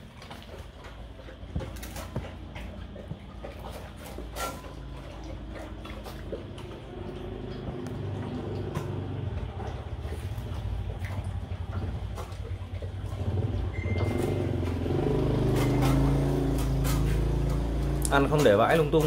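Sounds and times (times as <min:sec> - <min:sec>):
dogs crunching kibble: 0:00.0 - 0:19.0
low motor hum: 0:00.0 - 0:19.0.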